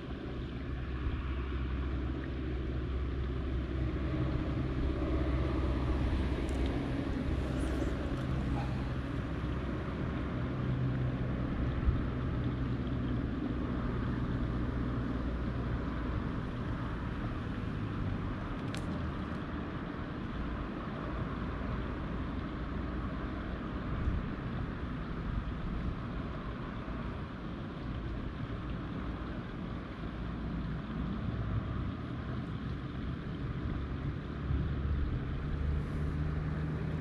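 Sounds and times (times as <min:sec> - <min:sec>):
distant engine drone: 0:00.0 - 0:37.0.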